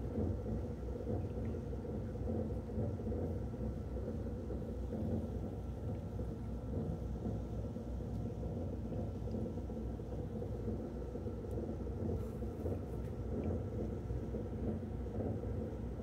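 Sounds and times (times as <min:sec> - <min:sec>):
faint steady whine: 0:00.0 - 0:16.0
motor and water rumble: 0:00.0 - 0:16.0.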